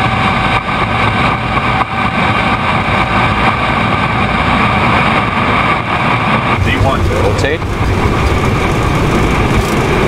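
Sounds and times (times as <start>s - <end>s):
jet engines roaring with fan whine: 0.0s - 10.0s
landing gear rumbling on runway: 0.0s - 10.0s.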